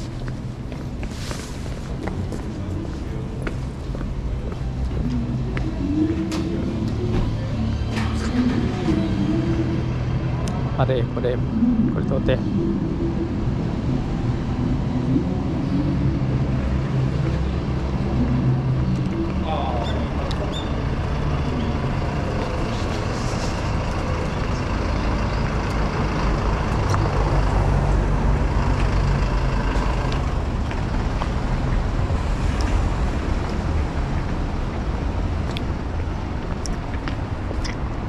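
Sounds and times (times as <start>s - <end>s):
cars passing: 0.0s - 38.0s
vehicle engines running: 0.0s - 38.0s.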